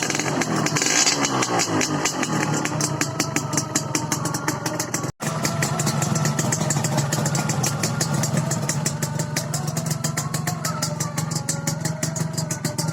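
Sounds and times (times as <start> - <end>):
two-stroke motorcycle engine idling: 0.0 - 12.9.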